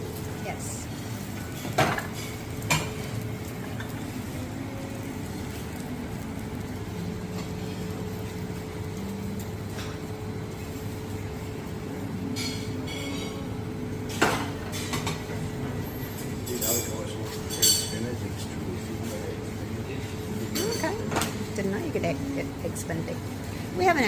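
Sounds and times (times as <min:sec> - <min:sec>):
mechanical hum with steady tone: 0:00.0 - 0:24.0.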